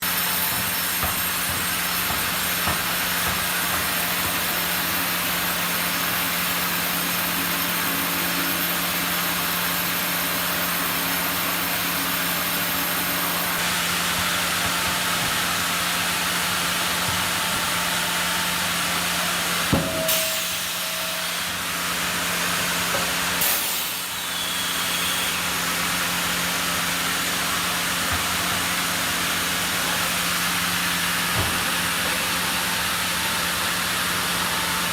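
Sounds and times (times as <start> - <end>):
sawmill machinery hum and hiss: 0.0 - 34.9.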